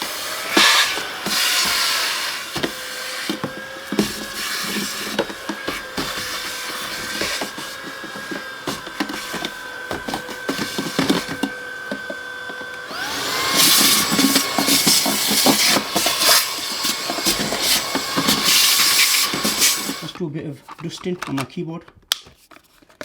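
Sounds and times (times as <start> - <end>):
cordless vacuum cleaner running: 0.0 - 20.2.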